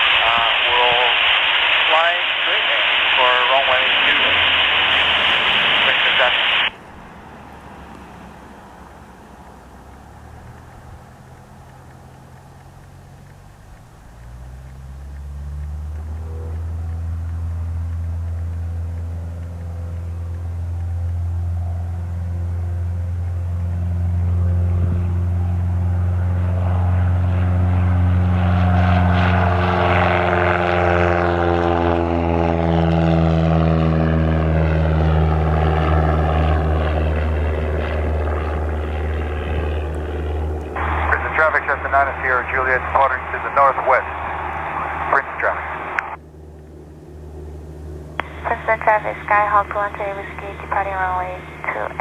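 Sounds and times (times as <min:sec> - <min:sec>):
propeller plane passing by: 0:00.0 - 0:52.0.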